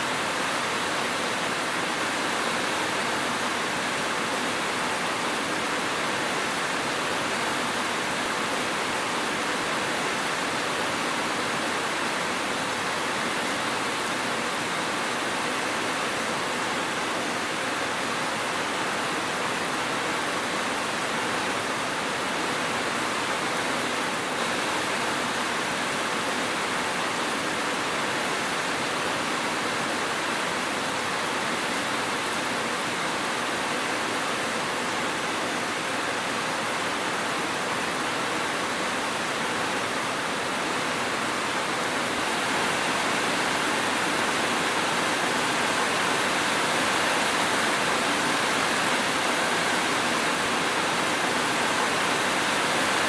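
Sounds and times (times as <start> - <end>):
dense rain hissing: 0.0 - 53.0.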